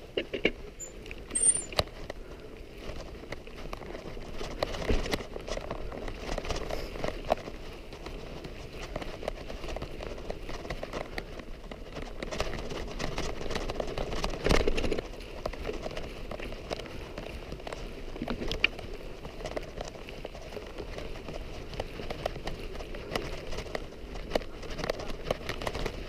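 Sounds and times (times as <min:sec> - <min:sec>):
footsteps crunching on stony trail: 0:00.0 - 0:26.0.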